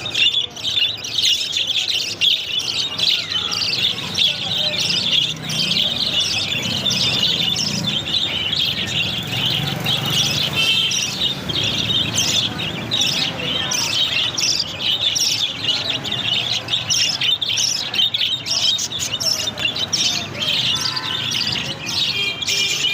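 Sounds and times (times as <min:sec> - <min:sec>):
budgerigars chattering: 0:00.0 - 0:22.9.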